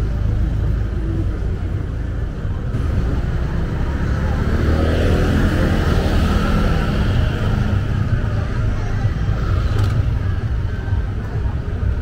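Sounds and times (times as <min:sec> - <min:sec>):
car and motorbike engines rumbling: 0:00.0 - 0:12.0.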